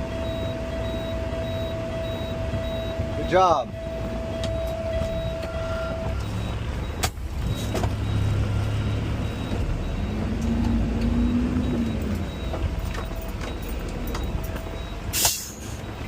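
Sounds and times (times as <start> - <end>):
garbage truck rumbling: 0.0 - 16.0.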